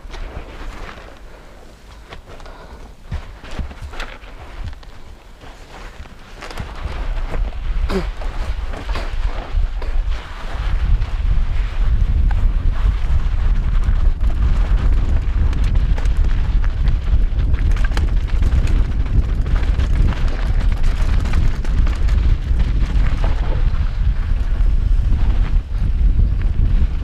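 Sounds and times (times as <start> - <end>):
wind rumble on microphone: 0.0 - 27.0
bike clicking and rattling: 2.0 - 27.0.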